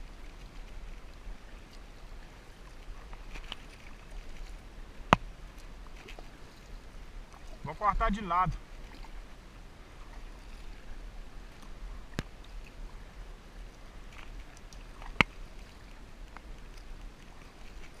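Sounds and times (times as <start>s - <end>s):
water wash from paddling: 0.0s - 18.0s.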